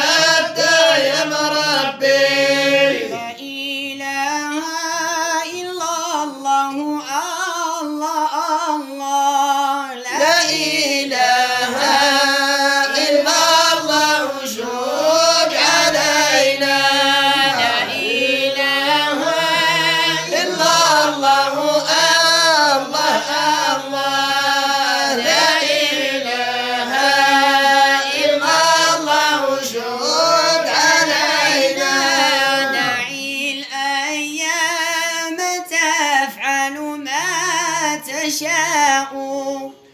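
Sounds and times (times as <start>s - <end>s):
person singing devotional song: 0.0s - 39.9s.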